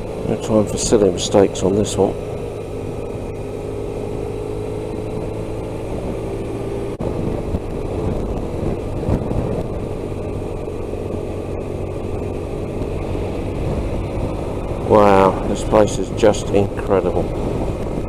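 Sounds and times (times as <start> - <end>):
motorcycle engine running: 0.0 - 18.0
road and wind noise: 0.0 - 18.0.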